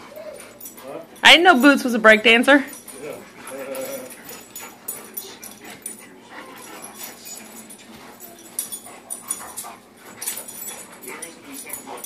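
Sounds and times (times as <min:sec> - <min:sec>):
dog vocal noises: 0:00.0 - 0:01.2, 0:02.7 - 0:12.0
dogs scuffling: 0:00.0 - 0:12.0.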